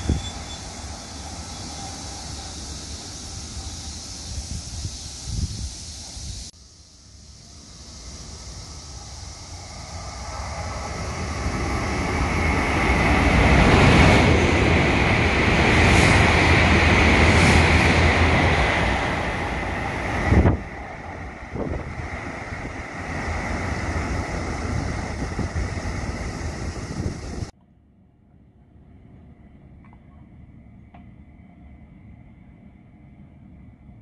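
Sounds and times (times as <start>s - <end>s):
high-speed train passing: 0.0s - 27.6s, 28.7s - 34.0s.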